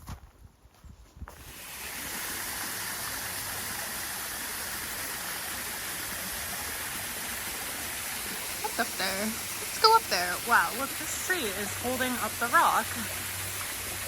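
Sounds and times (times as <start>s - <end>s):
small waterfall pouring: 1.4s - 14.0s.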